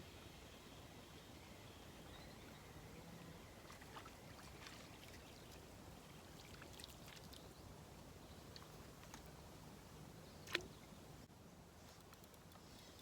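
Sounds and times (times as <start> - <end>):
faint river water: 0.0 - 13.0.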